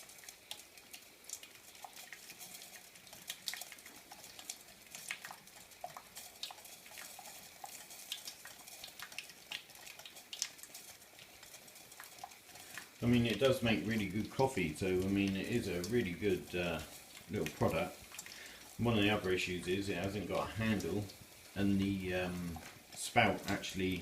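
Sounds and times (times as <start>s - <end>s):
coffee maker crackling and sizzling: 0.0s - 24.0s.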